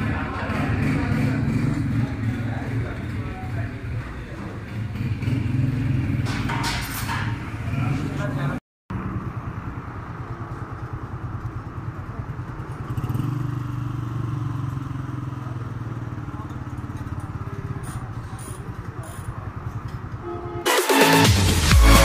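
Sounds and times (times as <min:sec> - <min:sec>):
motorcycle engine idling: 0:00.0 - 0:06.2, 0:08.9 - 0:20.6.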